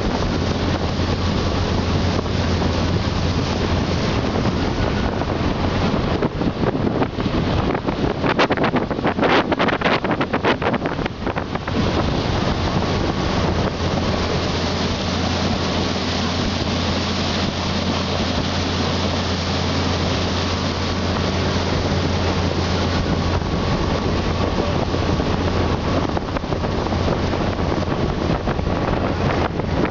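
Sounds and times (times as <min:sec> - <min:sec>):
churning wake rushing: 0:00.0 - 0:29.9
motorboat engine drone: 0:00.0 - 0:29.9
wind buffeting microphone: 0:00.0 - 0:29.9.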